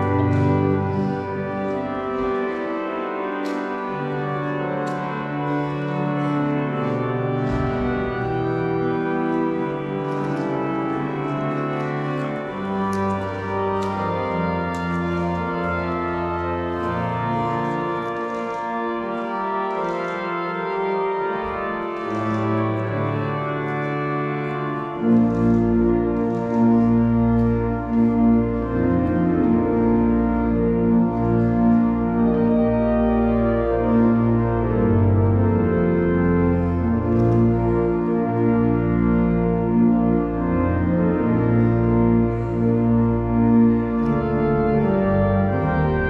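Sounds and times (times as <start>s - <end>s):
church organ playing chords: 0.0s - 46.0s.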